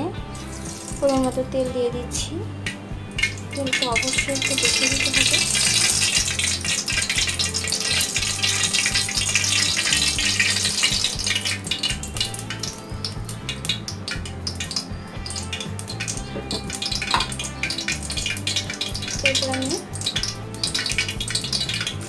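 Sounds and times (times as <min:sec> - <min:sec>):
oil pouring into a metal pot: 0:00.3 - 0:01.4, 0:03.1 - 0:22.0
oil crackling and ticking: 0:00.3 - 0:01.6, 0:02.6 - 0:22.0.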